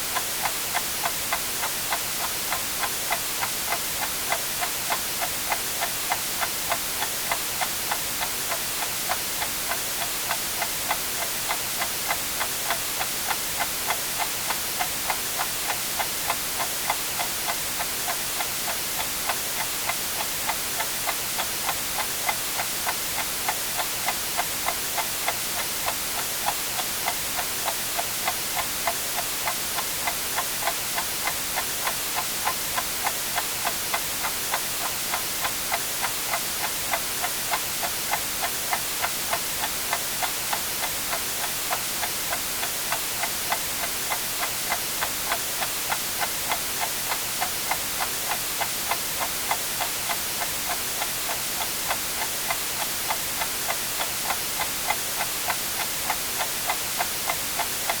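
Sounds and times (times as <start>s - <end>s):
white noise hiss: 0.0s - 58.0s
mechanical clock ticking: 0.2s - 58.0s.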